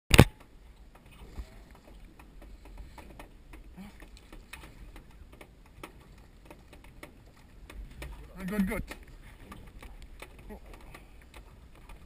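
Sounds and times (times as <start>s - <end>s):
faint small clicks and taps: 0.1s - 12.0s.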